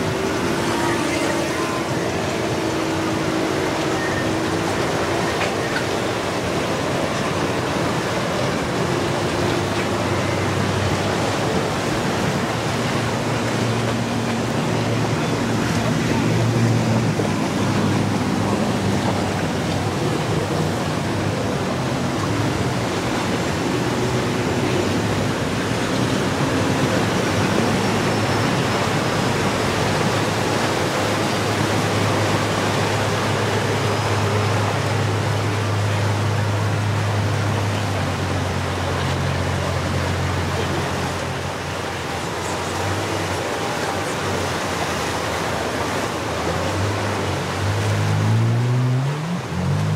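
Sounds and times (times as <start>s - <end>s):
powerboat engines droning: 0.0s - 49.9s
waves and wake spray: 0.0s - 49.9s.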